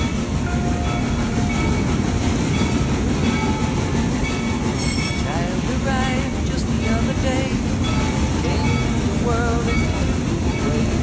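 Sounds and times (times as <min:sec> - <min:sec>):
steam train rumbling on track: 0:00.0 - 0:11.0.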